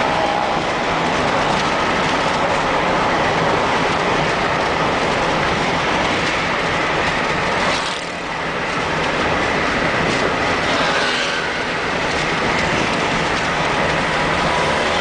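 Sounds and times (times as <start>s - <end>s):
tyres on asphalt: 0.0s - 15.0s.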